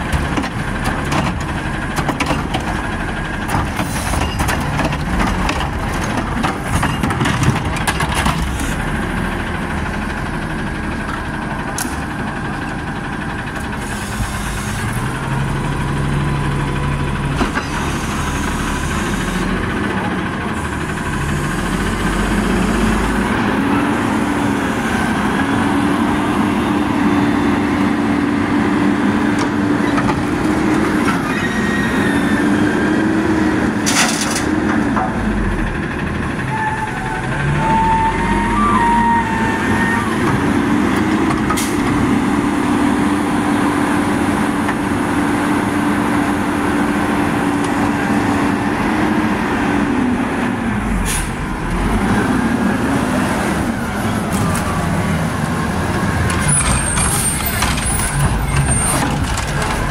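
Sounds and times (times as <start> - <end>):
garbage truck diesel engine revving: 0.0 - 59.9.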